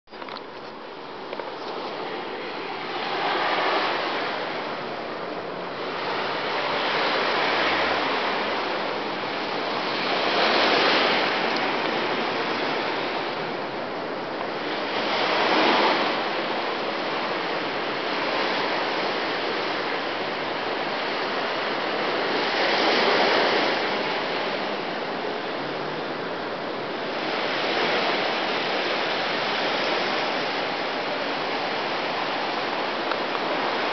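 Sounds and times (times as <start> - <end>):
waves breaking on beach: 0.1 - 33.9.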